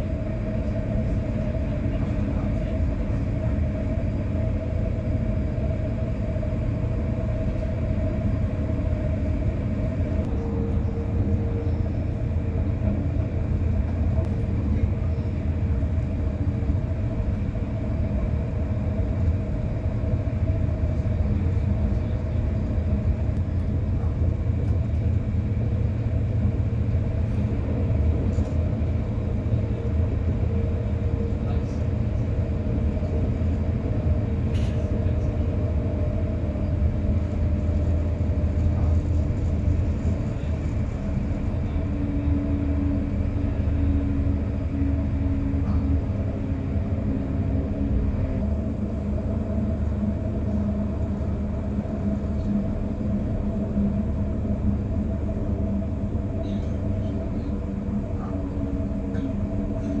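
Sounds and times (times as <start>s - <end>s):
train hum: 0.0s - 60.0s
train wheels rumbling on track: 0.0s - 60.0s.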